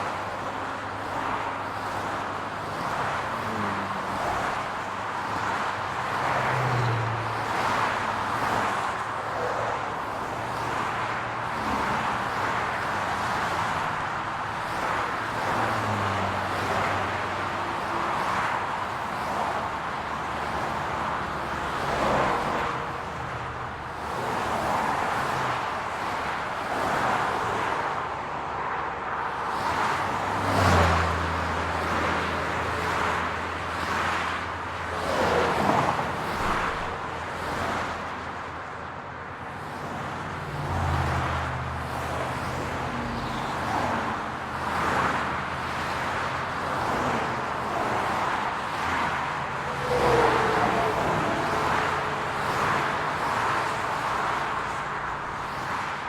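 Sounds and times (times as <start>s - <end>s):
cars passing: 0.0s - 56.0s
road noise: 0.0s - 56.0s.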